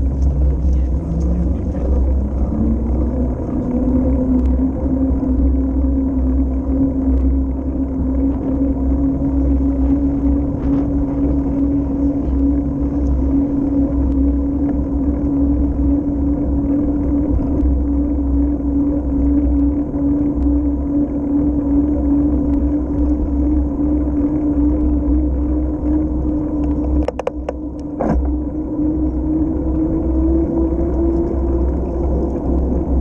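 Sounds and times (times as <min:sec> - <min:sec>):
bicycle tyre hum: 0:00.0 - 0:33.0
wind rumble on microphone: 0:00.0 - 0:33.0.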